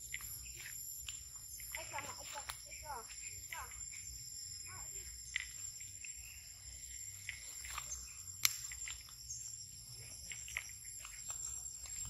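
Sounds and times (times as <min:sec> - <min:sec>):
footsteps through dry grass: 0:00.0 - 0:12.0
insects shrilling: 0:00.0 - 0:12.0.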